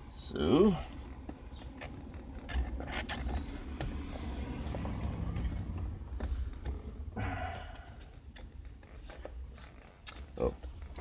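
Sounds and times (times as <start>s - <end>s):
tool handling rumble: 0.7s - 11.0s.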